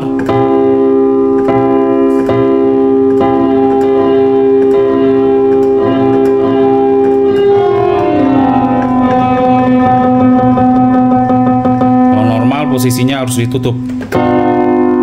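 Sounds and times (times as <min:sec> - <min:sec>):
keyboard chord sliding down in pitch: 0:00.0 - 0:15.0.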